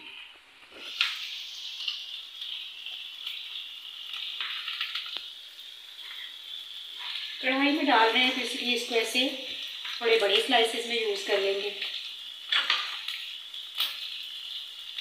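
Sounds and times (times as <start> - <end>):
paste sizzling in hot oil: 0.7 - 15.0.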